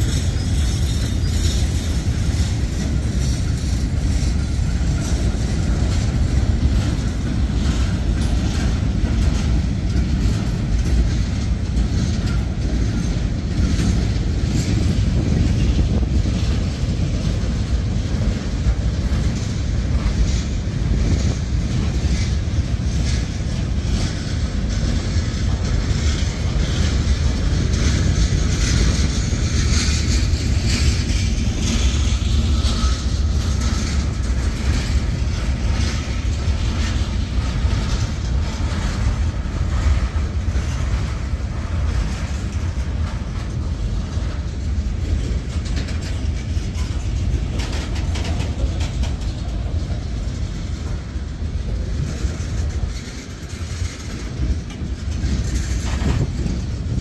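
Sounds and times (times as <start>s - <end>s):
freight train wheels rumbling: 0.0s - 57.0s
wheels clicking over rail joints: 0.0s - 57.0s.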